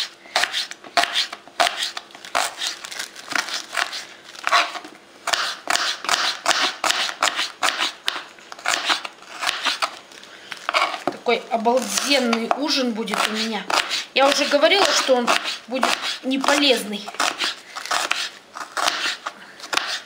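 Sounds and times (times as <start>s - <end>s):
knife slicing onion on board: 0.0s - 2.8s, 3.7s - 9.9s, 11.9s - 20.0s.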